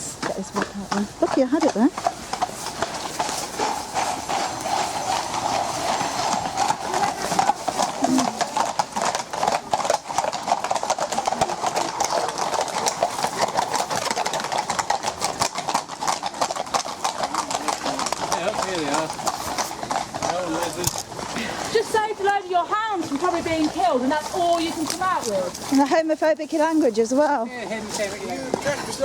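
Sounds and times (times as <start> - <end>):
horses' hooves clip-clopping: 0.0 - 29.0.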